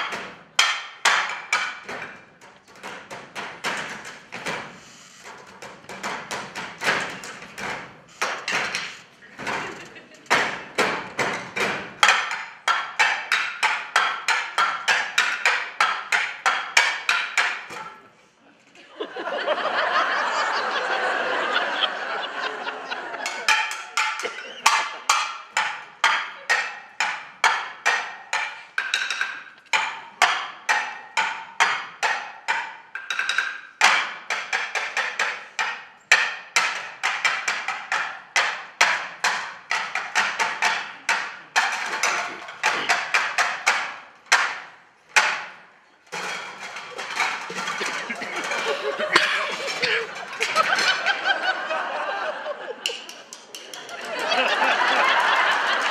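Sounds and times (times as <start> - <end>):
pans and plates struck rhythmically: 0.0 - 18.1, 19.1 - 55.9.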